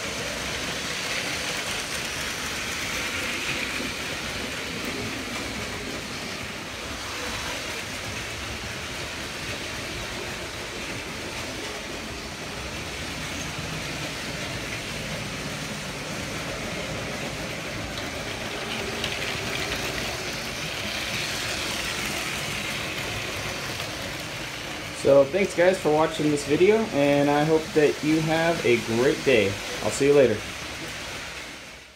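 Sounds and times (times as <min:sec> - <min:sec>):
toy train motors and wheels: 0:00.0 - 0:31.9.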